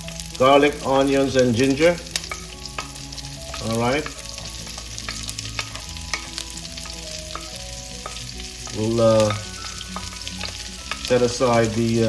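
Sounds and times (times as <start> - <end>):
food sizzling and crackling in pan: 0.0 - 12.0.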